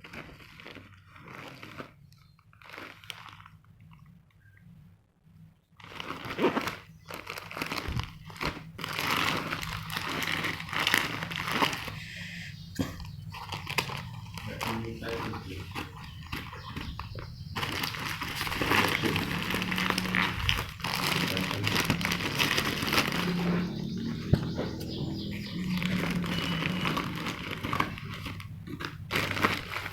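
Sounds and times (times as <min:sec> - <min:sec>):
packaging crinkling and rustling: 0:00.0 - 0:04.1, 0:05.8 - 0:12.0, 0:13.0 - 0:29.9.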